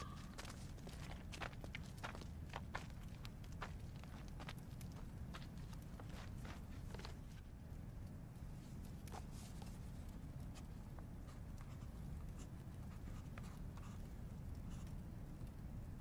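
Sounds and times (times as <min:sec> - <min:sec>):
faint low rumble: 0:00.0 - 0:16.0
soft clicks and rustles: 0:00.4 - 0:16.0.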